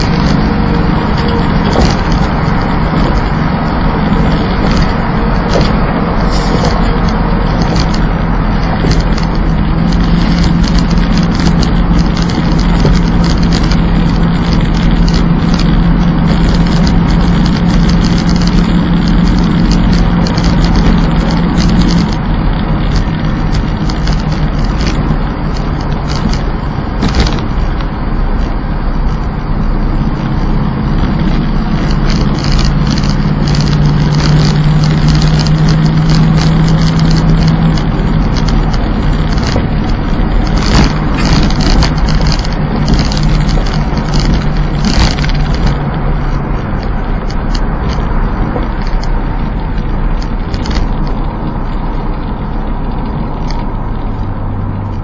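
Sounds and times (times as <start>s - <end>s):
car engine running: 0.0s - 55.0s
tyre and road noise: 0.0s - 55.0s.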